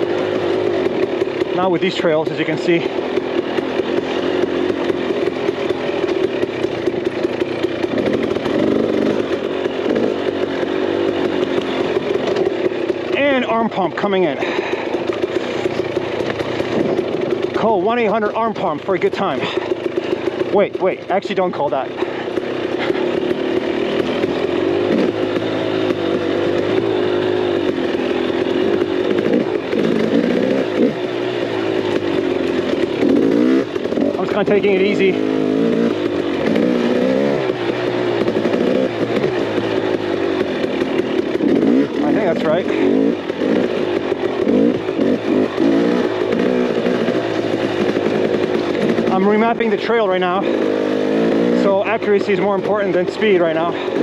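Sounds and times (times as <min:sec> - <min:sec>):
two-stroke motorcycle engine running: 0:00.0 - 0:54.0.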